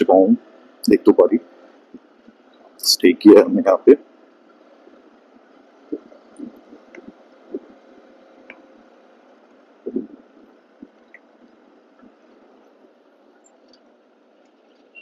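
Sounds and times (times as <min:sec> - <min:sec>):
wind and road noise hiss: 0:00.0 - 0:15.0.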